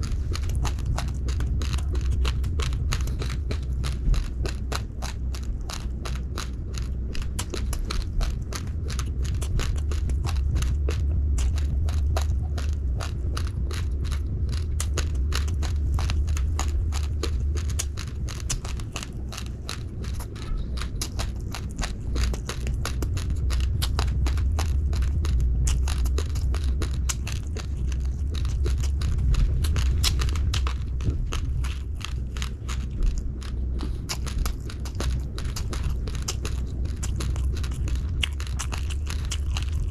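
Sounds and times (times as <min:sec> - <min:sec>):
chewing crunchy rice grains: 0:00.0 - 0:39.9
low rumble: 0:00.0 - 0:39.9.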